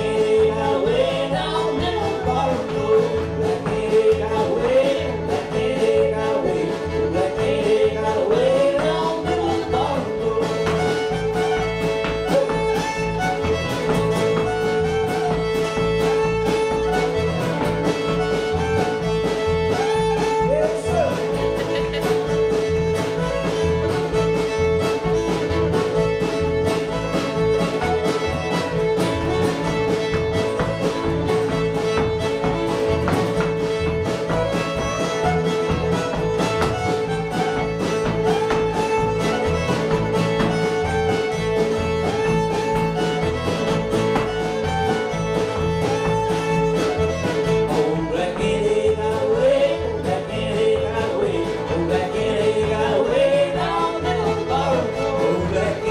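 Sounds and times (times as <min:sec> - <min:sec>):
fiddle long notes: 0:00.0 - 0:55.9
string band playing bluegrass: 0:00.0 - 0:55.9.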